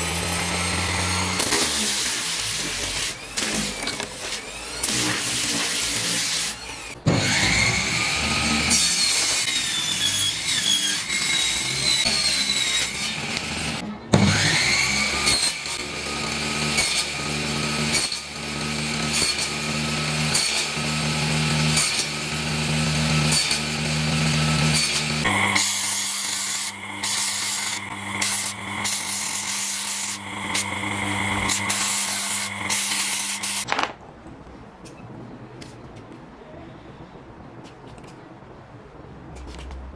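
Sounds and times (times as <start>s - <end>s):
orbital sander on plywood: 0.0s - 33.7s
table saw cutting plywood: 0.0s - 33.7s
table saw motor whine: 0.0s - 33.7s.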